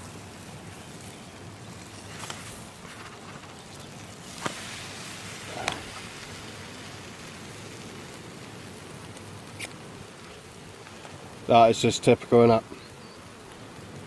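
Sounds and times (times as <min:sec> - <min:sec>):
omelette frying in a pan: 0:00.0 - 0:14.0.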